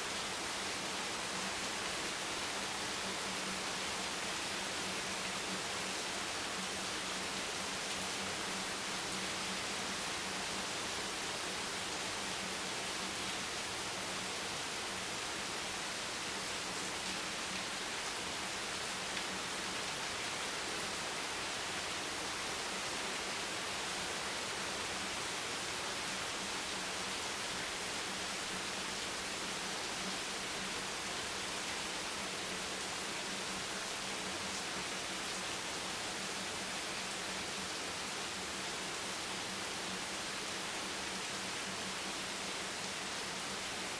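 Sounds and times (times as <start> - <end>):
rain hiss: 0.0 - 43.9.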